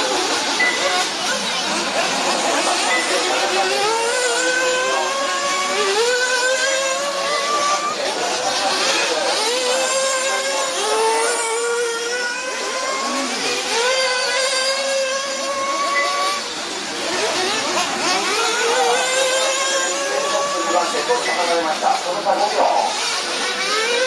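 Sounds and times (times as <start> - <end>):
rc buggy engines revving: 0.0 - 24.0.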